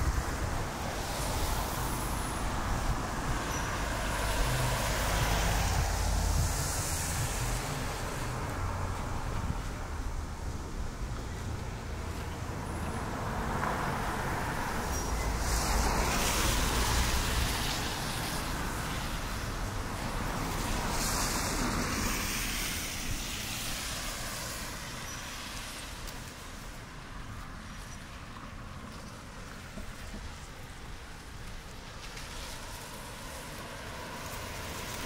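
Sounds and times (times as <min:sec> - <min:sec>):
traffic hum: 0:00.0 - 0:35.0
vehicles passing on wet road: 0:00.0 - 0:35.0.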